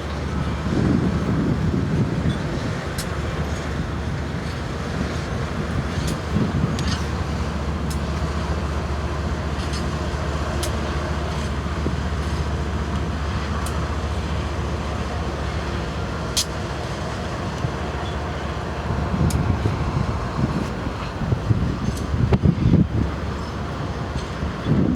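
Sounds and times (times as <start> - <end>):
locomotive engine rumble: 0.0 - 24.9.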